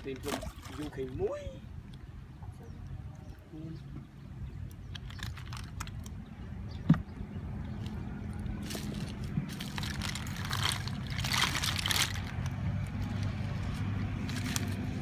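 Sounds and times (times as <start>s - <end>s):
steady engine hum: 1.3s - 15.0s.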